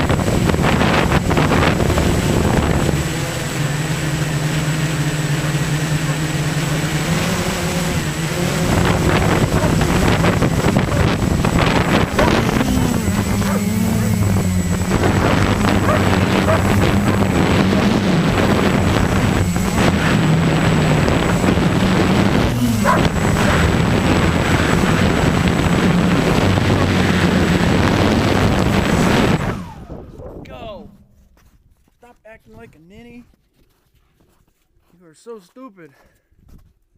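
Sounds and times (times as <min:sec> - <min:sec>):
engine running: 0:00.0 - 0:32.7
wind and motion noise: 0:00.0 - 0:33.4.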